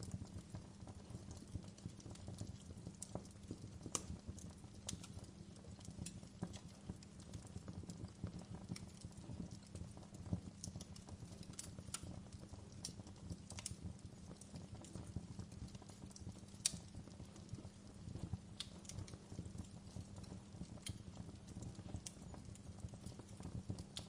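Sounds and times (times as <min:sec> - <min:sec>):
fire popping and snapping: 0:00.0 - 0:24.0
low fire rumble: 0:00.0 - 0:24.0.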